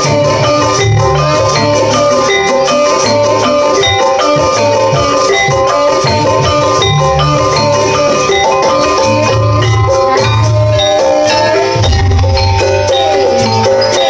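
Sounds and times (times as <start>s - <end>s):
gamelan metallophones playing fast runs: 0.0s - 14.0s.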